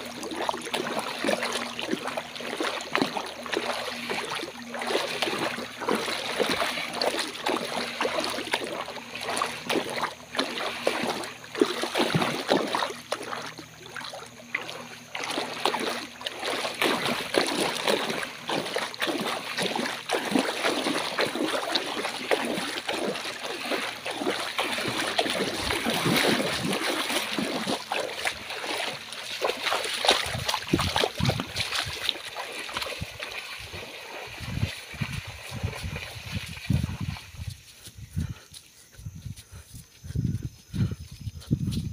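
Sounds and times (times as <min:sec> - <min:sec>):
splashing through shallow water: 0:00.0 - 0:41.9.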